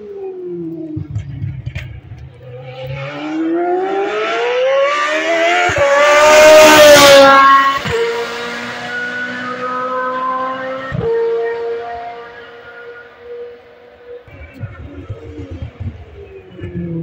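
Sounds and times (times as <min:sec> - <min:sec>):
racing car engine passing by: 0:00.1 - 0:17.0.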